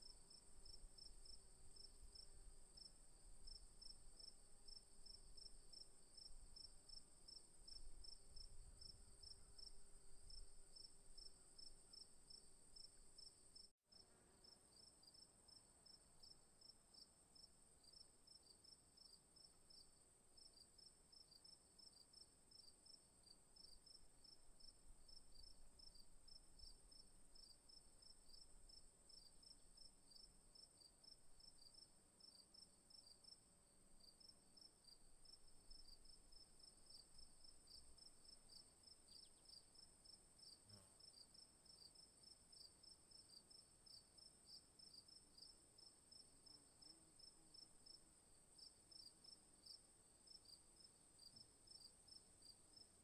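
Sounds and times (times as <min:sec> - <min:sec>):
crickets chirping: 0:00.0 - 0:13.7, 0:20.4 - 0:53.0.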